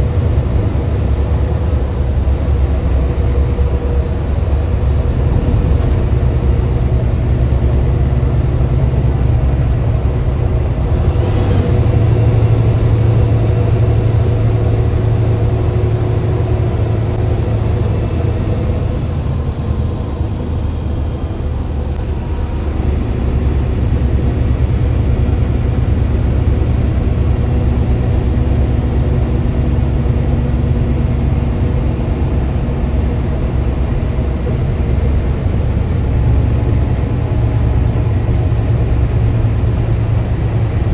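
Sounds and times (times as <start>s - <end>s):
bus diesel engine rumble: 0.0s - 40.9s.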